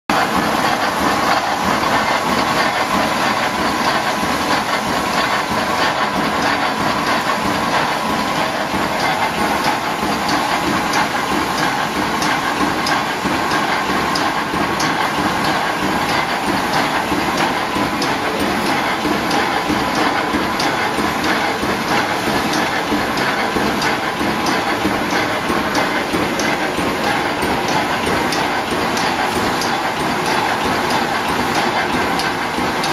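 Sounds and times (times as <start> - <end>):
steady mechanical din: 0.1 - 32.9
wire mesh machine clacking: 0.1 - 32.9.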